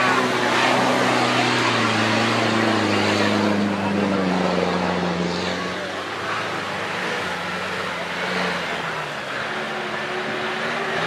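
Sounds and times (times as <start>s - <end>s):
crowd voices: 0.0s - 11.0s
engine running under load: 0.0s - 11.0s
noisy rush: 0.0s - 11.0s.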